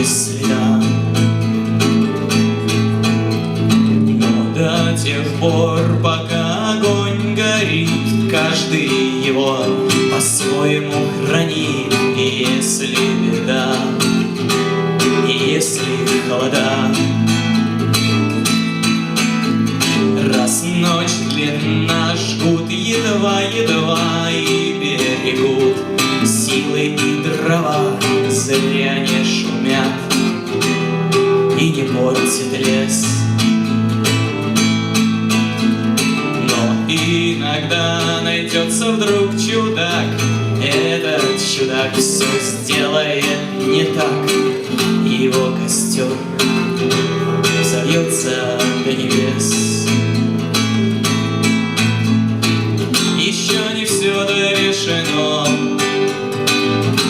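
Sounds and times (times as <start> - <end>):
person singing: 0.0 - 1.3, 3.8 - 17.8, 20.0 - 30.5, 31.4 - 33.5, 36.2 - 51.2, 52.9 - 56.2
acoustic guitar strumming: 0.0 - 57.0.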